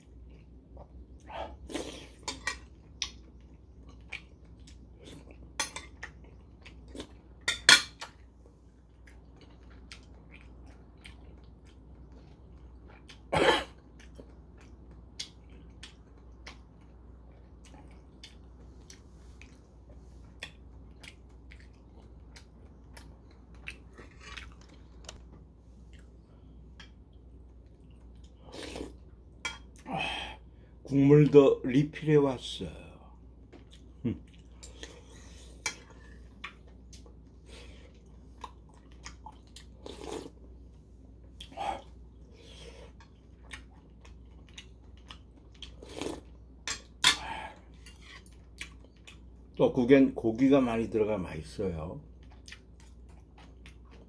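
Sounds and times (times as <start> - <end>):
chewing: 0.0 - 7.4, 8.0 - 29.9, 33.5 - 40.4, 41.1 - 49.6, 52.1 - 54.0.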